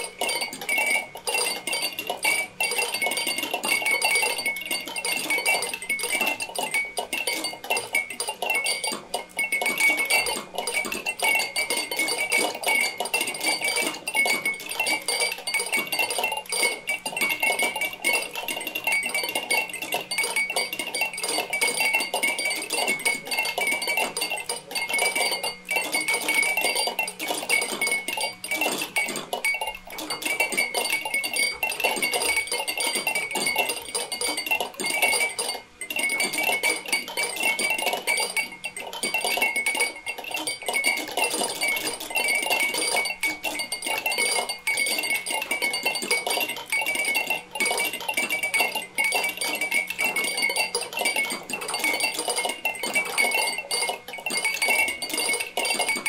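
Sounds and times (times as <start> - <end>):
steady high ringing: 0.0 - 56.0
toy birds clicking and clinking: 0.0 - 56.0.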